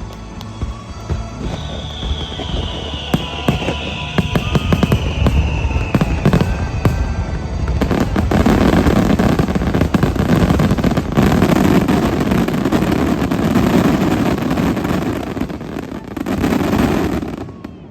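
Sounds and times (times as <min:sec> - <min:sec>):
show music: 0:00.0 - 0:17.4
fireworks bangs and crackles: 0:00.0 - 0:17.9.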